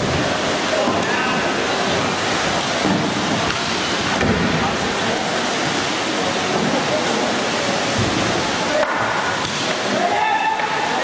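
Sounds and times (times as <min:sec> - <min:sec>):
kayak paddles splashing: 0:00.0 - 0:11.0
water churning: 0:00.0 - 0:11.0.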